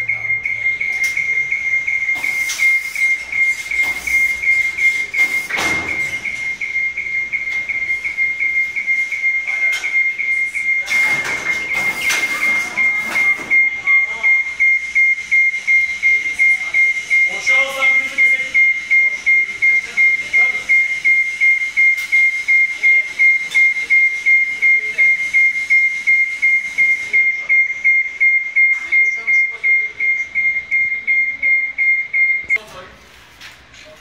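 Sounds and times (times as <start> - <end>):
lift motion alarm beeping: 0.0 - 32.6.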